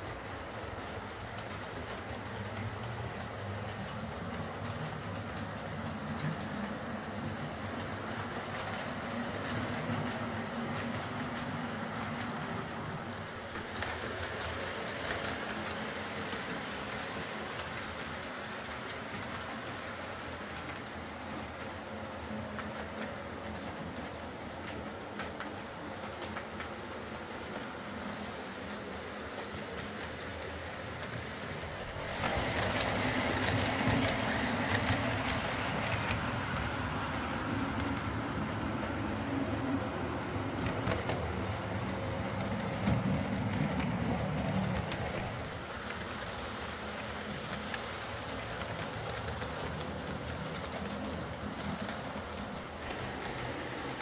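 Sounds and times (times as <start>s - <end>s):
model train rumbling on rails: 0.0s - 54.0s.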